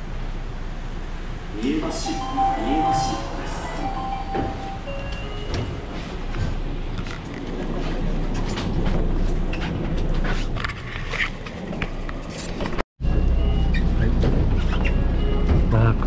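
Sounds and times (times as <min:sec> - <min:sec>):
monorail car running rumble: 0:00.0 - 0:16.0.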